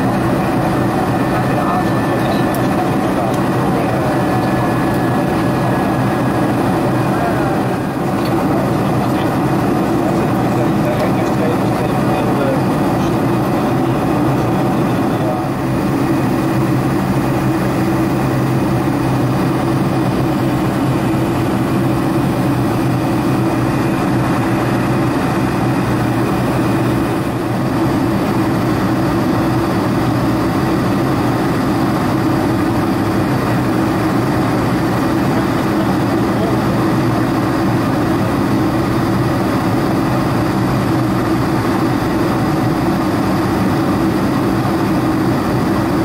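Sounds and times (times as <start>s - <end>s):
airflow rushing over fuselage: 0.0s - 46.0s
jet engines droning: 0.0s - 46.0s
low hum: 0.0s - 46.0s.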